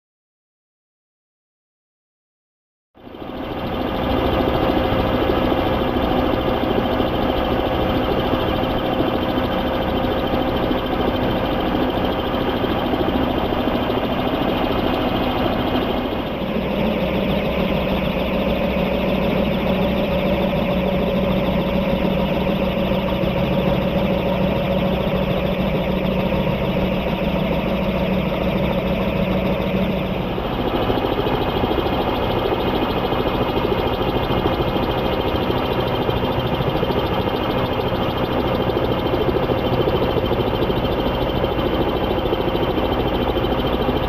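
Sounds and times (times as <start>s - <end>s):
drive motor drone: 3.0s - 44.0s
model helicopter rotor flapping: 3.0s - 44.0s.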